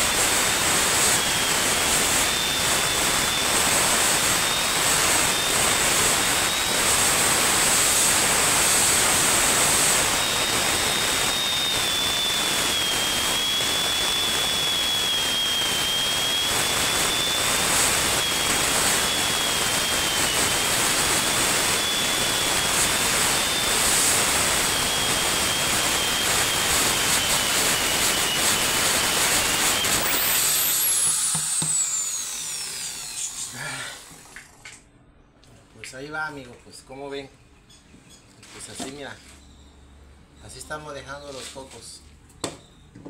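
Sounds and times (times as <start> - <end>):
electric drill grinding coconut: 0.0 - 34.6.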